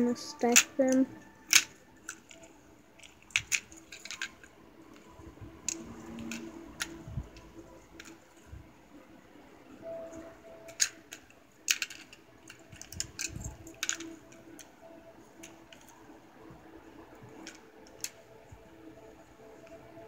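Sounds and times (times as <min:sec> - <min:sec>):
plastic fidget spinners clicking: 0:00.2 - 0:08.4, 0:10.6 - 0:16.0, 0:17.1 - 0:20.0.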